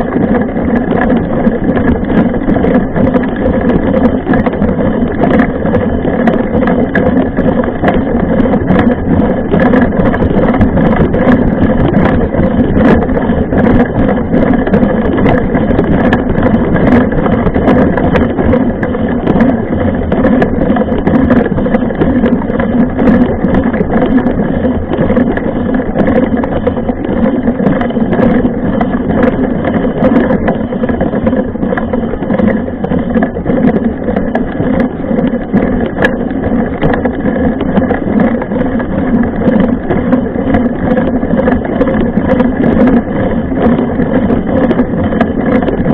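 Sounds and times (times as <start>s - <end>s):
bike rattles and knocks: 0.0s - 45.9s
bike riding rumble: 0.0s - 45.9s.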